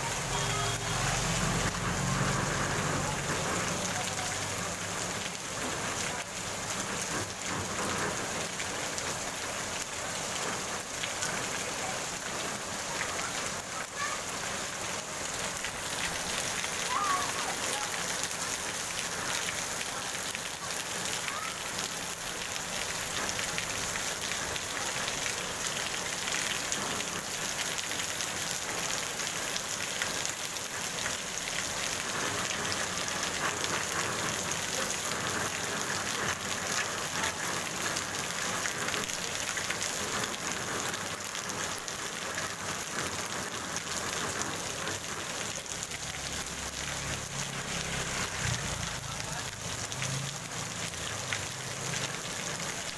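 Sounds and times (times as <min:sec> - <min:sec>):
heavy rain on wet pavement: 0:00.0 - 0:52.9.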